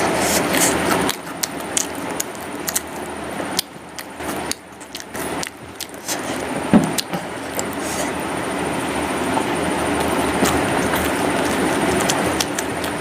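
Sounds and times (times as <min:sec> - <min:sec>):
chewing: 0:00.0 - 0:08.2, 0:09.1 - 0:13.0.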